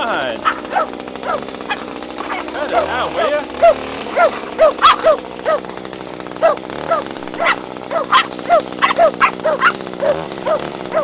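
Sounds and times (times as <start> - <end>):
string trimmer running: 0.0 - 11.0
puppies yapping: 0.2 - 11.0.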